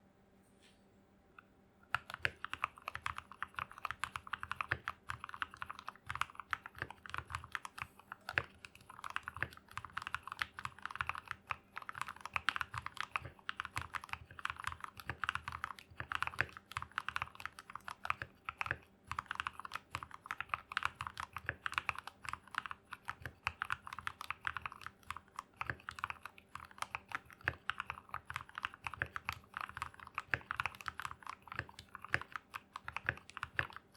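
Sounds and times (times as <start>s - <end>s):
mechanical keyboard typing: 1.9s - 33.9s.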